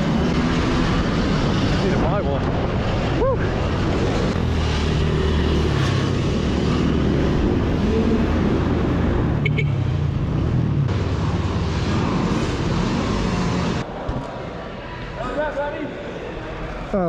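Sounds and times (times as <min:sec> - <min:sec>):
wind and riding noise: 0:00.0 - 0:15.0.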